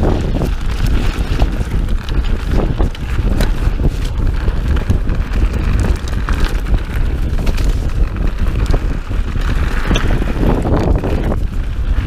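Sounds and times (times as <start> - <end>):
bike knocks and rattles: 0.0 - 12.0
bike tyres rolling on gravel: 0.0 - 12.0
wind buffeting microphone: 0.0 - 12.0.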